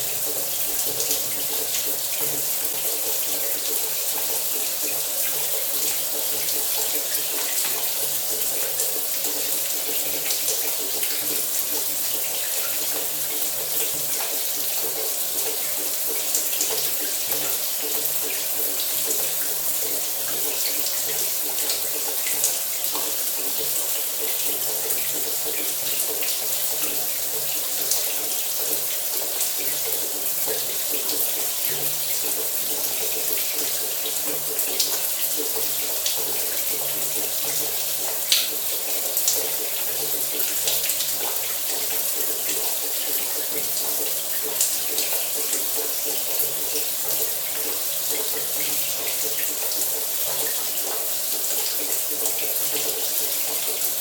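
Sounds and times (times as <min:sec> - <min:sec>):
water splashes and drips: 0:00.0 - 0:54.0.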